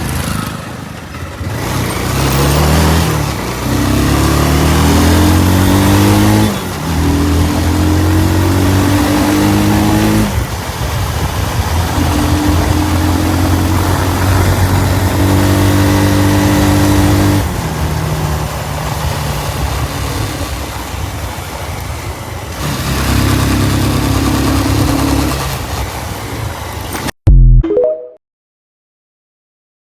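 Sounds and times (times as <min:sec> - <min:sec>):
engine revving: 0:00.0 - 0:20.8, 0:22.5 - 0:26.0.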